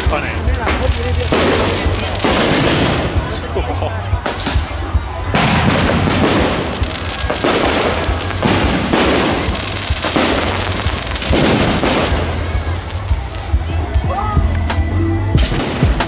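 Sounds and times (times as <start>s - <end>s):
fireworks crackling: 0.0s - 14.8s, 15.4s - 16.0s.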